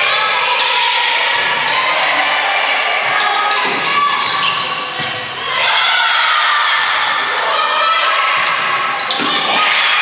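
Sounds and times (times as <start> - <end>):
voices chattering in echoing hall: 0.0 - 10.0.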